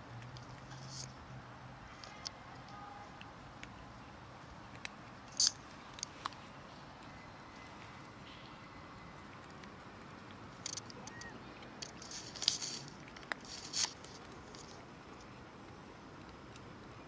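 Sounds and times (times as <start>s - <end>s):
cats crunching dry kibble: 0.0s - 8.2s, 9.1s - 17.0s.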